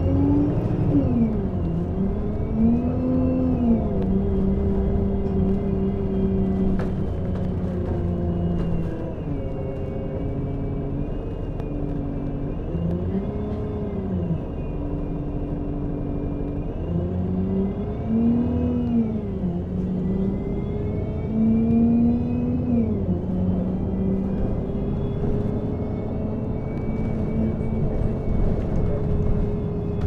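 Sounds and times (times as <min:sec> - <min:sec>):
bus engine running: 0:00.0 - 0:30.0
road noise: 0:00.0 - 0:30.0.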